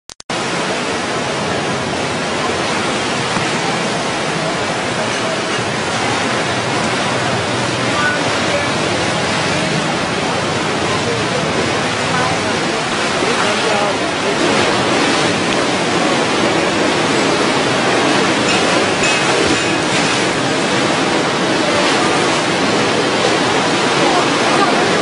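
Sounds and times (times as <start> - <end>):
floodwaters rushing: 0.3 - 25.0.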